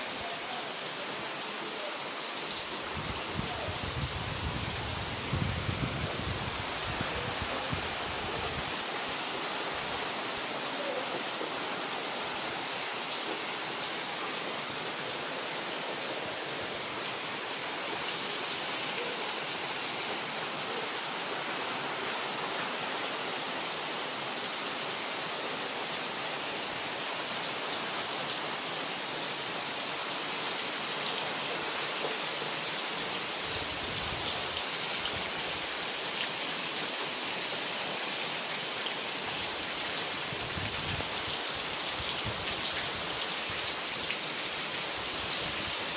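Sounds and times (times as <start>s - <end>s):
heavy rain on foliage: 0.0s - 45.9s.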